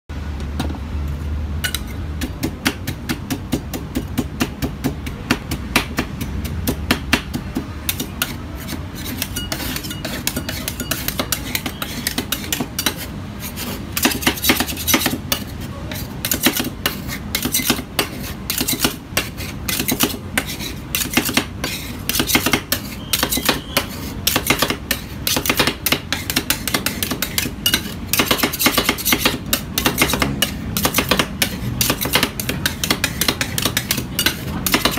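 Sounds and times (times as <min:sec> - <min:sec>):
metal spatulas chopping on steel pan: 0:01.6 - 0:34.9.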